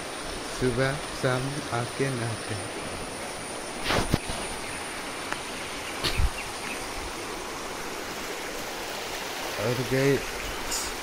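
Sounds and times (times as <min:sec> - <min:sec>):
water rushing over weir: 0:00.0 - 0:11.0.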